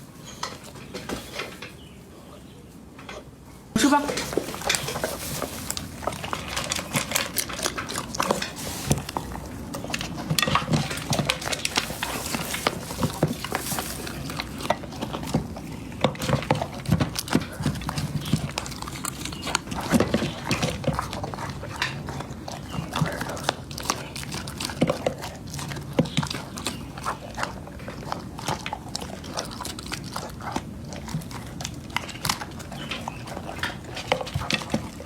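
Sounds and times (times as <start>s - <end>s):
dog chewing and crunching food: 0.0s - 35.0s.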